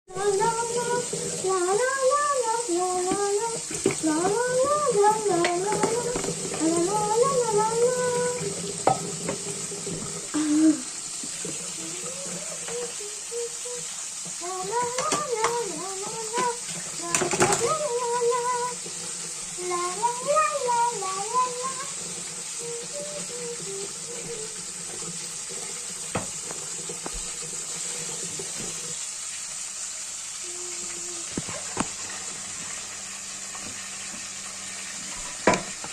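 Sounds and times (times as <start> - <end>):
tap water running into sink: 0.1 - 35.9.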